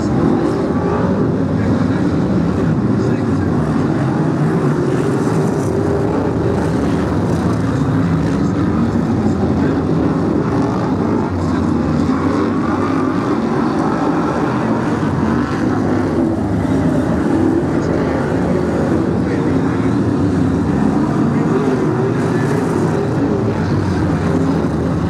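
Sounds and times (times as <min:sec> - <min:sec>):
racing car engines drone: 0:00.0 - 0:25.0.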